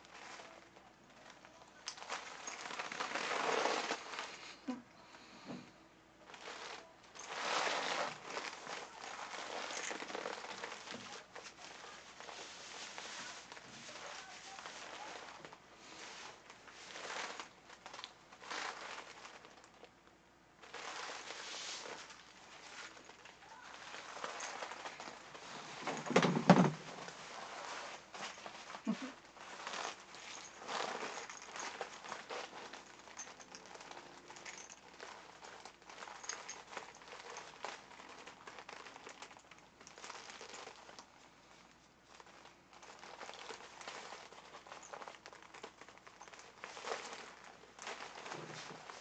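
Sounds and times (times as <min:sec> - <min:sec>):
plastic suit crinkling and rustling: 0:00.0 - 0:49.0.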